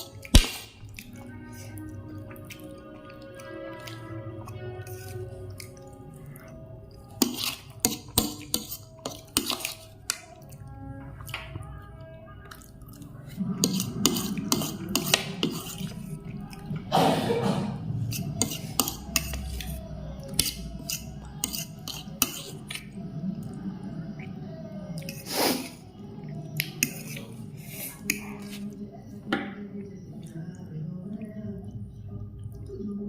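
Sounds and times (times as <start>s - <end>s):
slurping: 0.0s - 11.3s, 12.4s - 29.2s
chewing: 0.0s - 16.9s, 18.0s - 32.8s.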